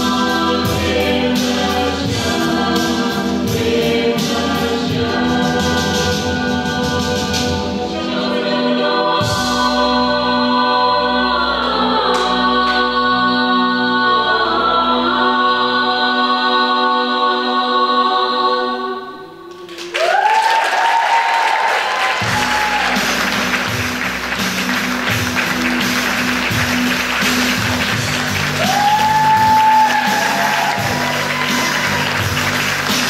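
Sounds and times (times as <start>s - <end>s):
vocal ensemble holding chord: 0.0s - 20.2s, 21.8s - 33.0s.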